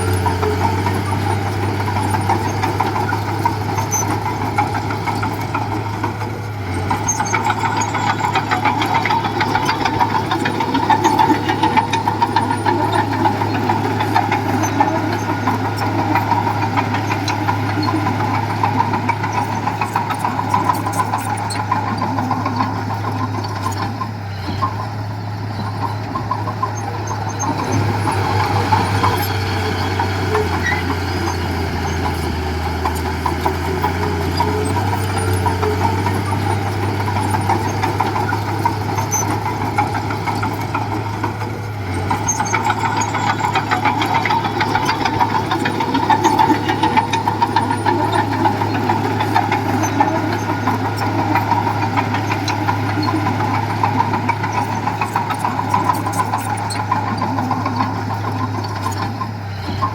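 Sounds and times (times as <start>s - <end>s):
diesel engine running under load: 0.0s - 59.9s
machine rattling: 0.0s - 59.9s.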